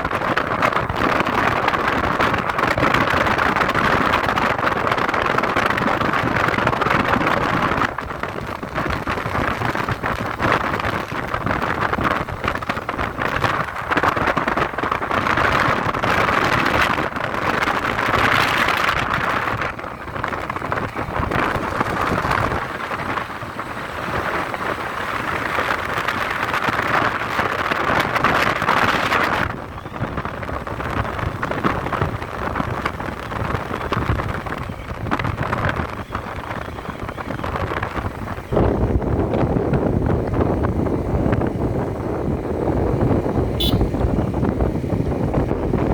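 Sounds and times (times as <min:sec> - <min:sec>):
vehicle road noise: 0:00.0 - 0:45.9
wind on microphone: 0:00.0 - 0:45.9.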